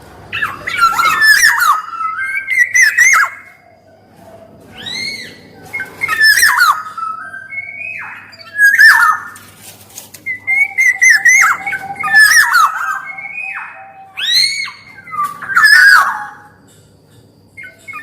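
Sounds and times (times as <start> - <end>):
oriole whistling song: 0.3 - 9.6, 10.2 - 18.0.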